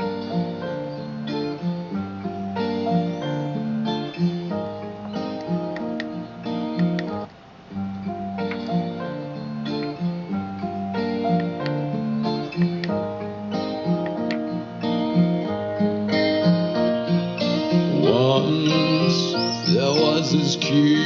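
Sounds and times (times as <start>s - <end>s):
acoustic guitar music through small speaker: 0.0s - 21.0s.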